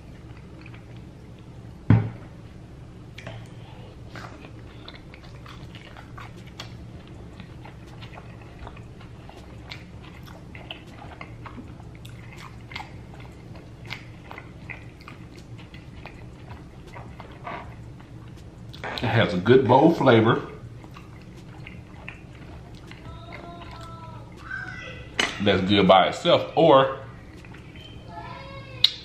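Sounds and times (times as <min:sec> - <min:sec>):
person chewing crunchy food: 0:00.0 - 0:02.4, 0:03.0 - 0:29.0.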